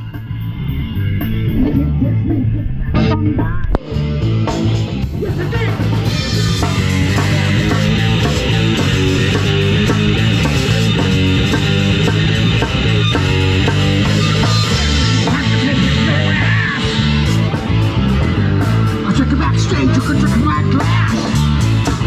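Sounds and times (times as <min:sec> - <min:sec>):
drum kit: 0:00.0 - 0:22.0
electric guitar: 0:00.0 - 0:22.0.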